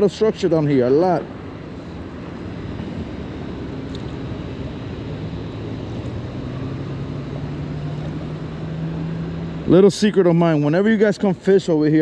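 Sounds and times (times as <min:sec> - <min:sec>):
distant engine humming: 0:00.0 - 0:12.0
outdoor noise: 0:00.0 - 0:12.0.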